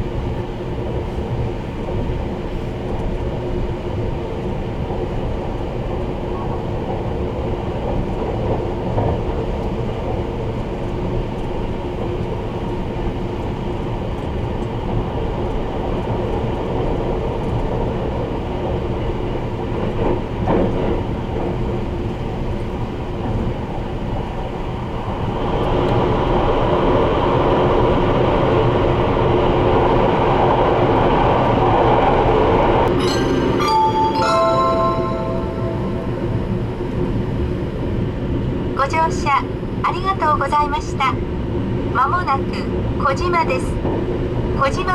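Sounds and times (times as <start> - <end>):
train wheels rumbling on rail: 0.0 - 33.0, 36.0 - 44.9.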